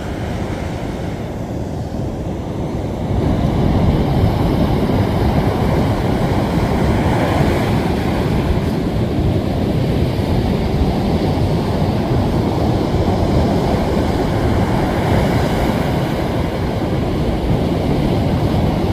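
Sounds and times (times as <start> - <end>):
ocean surf breaking on beach: 0.0 - 18.9.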